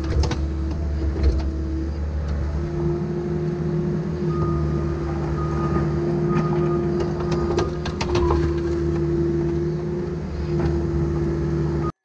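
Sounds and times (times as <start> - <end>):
excavator diesel engine running: 0.0 - 12.0
hydraulics whining: 0.0 - 12.0.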